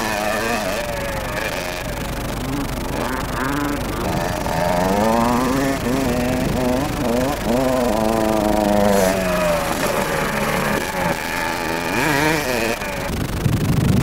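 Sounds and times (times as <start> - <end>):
motorbike engine revving: 0.0 - 14.0.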